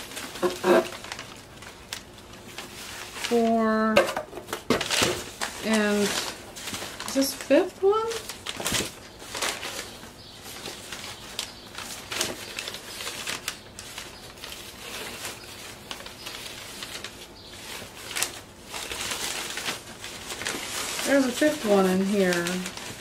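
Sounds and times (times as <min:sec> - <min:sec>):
paper rustling and crinkling: 0:00.0 - 0:23.0.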